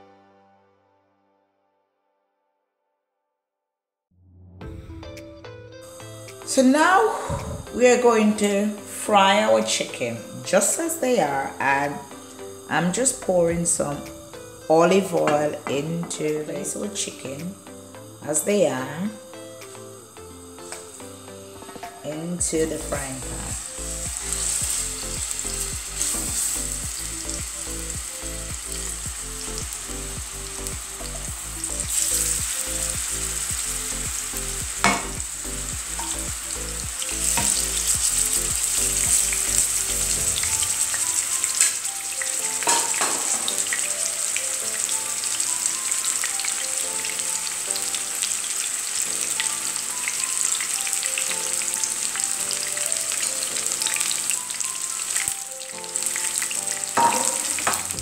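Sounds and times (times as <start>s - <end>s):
chicken sizzling in frying pan: 5.9s - 58.0s.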